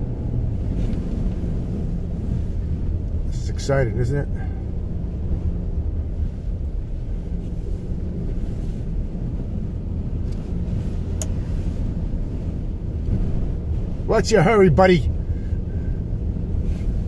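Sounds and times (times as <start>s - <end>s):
car rumble from inside cabin: 0.0s - 17.0s.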